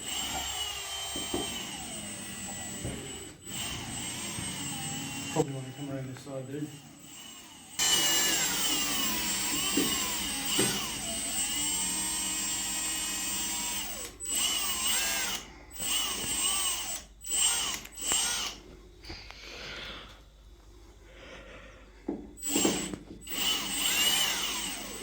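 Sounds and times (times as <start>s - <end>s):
power drill motor whining: 0.0s - 18.8s, 22.4s - 25.0s.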